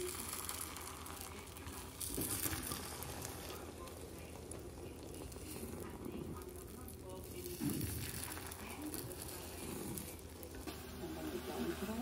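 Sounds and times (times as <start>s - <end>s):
eggs sizzling in a skillet: 0.0s - 12.0s
spatula pushing through eggs: 0.0s - 12.0s.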